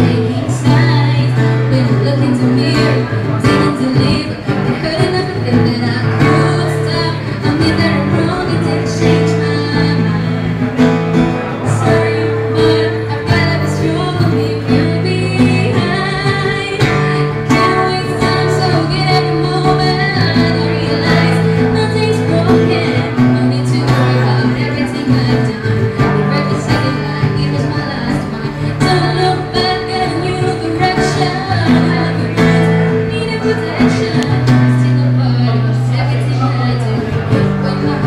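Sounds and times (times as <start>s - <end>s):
guitar accompaniment: 0.0s - 38.0s
woman singing into microphone: 0.0s - 38.0s.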